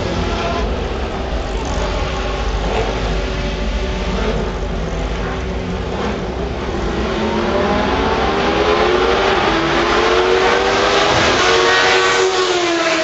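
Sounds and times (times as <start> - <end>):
race cars accelerating past: 1.4 - 13.0.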